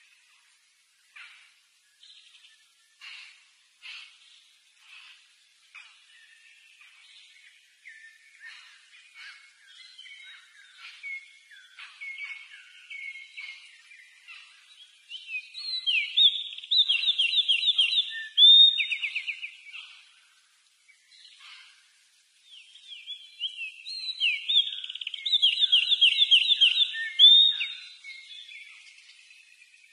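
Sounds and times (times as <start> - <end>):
songbird chirping and trilling: 0.0 - 29.9.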